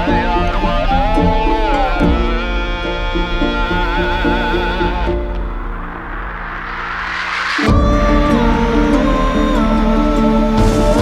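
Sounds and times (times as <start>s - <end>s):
folk band music: 0.0s - 11.0s.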